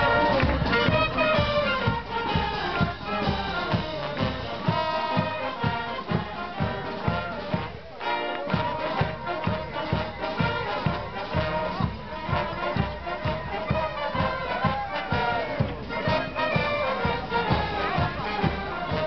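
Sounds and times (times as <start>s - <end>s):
brass street band playing: 0.0s - 19.0s.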